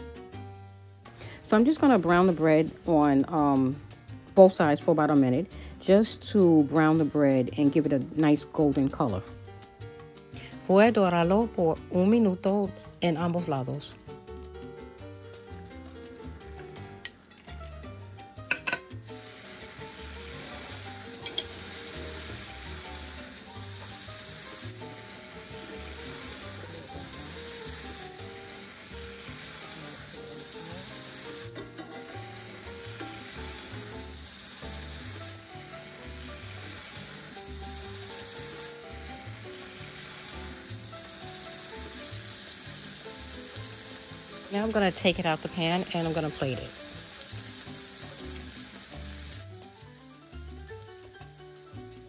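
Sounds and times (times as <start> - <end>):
bread sizzling in a frying pan: 0.0 - 9.6, 15.2 - 52.0.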